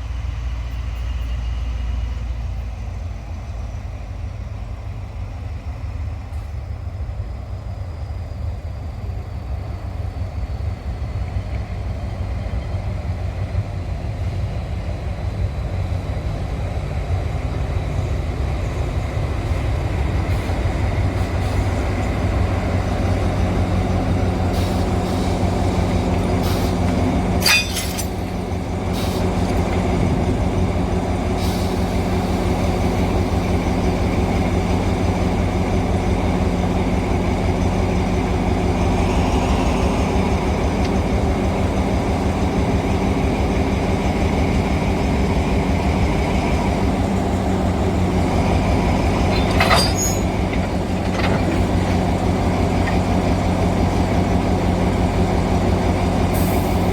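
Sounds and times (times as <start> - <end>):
locomotive engine drone: 0.0 - 56.9.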